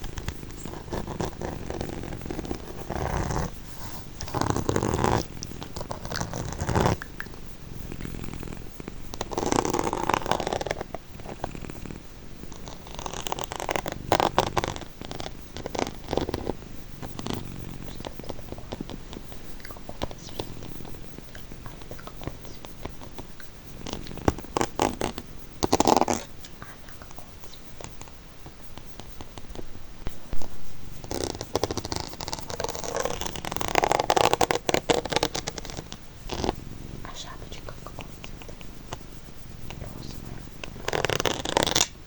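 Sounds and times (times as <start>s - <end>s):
soft steady hiss: 0.0s - 42.0s.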